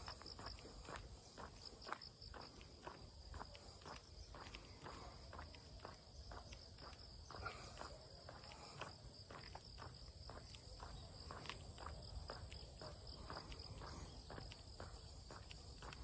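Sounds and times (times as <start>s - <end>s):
footsteps on forest path: 0.0s - 16.0s.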